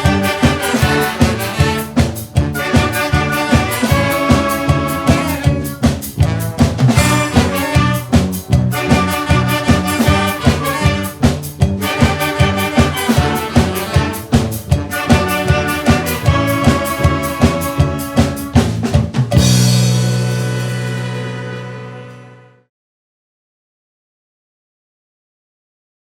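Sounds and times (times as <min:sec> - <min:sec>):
drum kit: 0:00.0 - 0:22.5
upbeat brass band music: 0:00.0 - 0:22.7.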